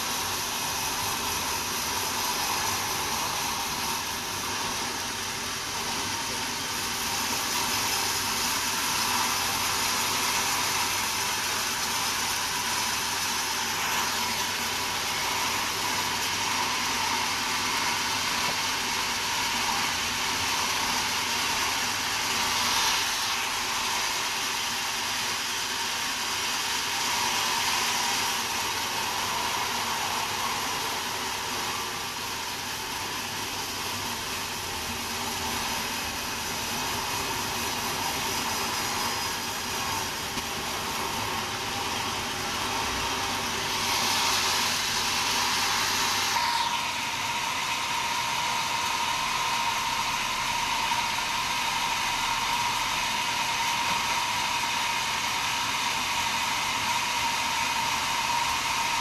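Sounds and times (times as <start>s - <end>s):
hiss: 0.0s - 59.0s
sawmill saw whining: 0.0s - 59.0s.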